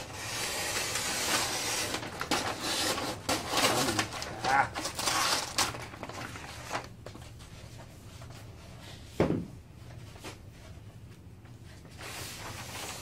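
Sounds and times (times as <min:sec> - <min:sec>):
masking paper handling: 0:00.0 - 0:09.1, 0:09.8 - 0:13.0.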